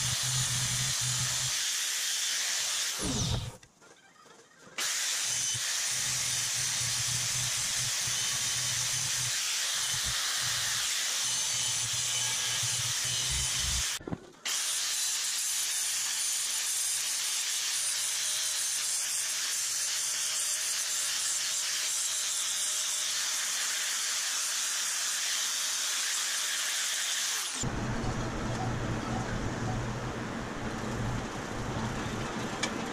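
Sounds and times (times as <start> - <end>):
angle grinder sanding metal: 0.0 - 3.6, 4.8 - 27.7.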